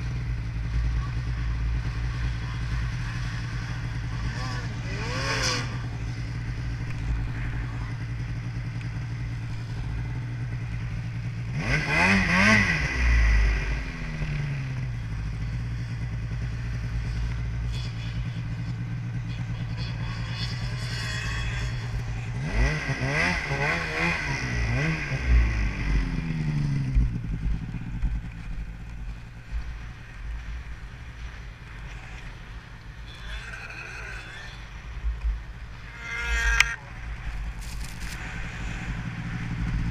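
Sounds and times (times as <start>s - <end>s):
snowmobile engine revving: 0.0s - 28.5s, 35.6s - 39.9s.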